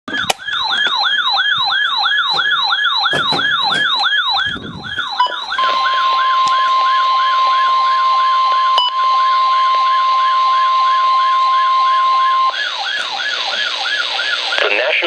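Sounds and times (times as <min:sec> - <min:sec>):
falling siren alarm: 0:00.1 - 0:15.0
steady warning alarm tone: 0:00.1 - 0:15.0.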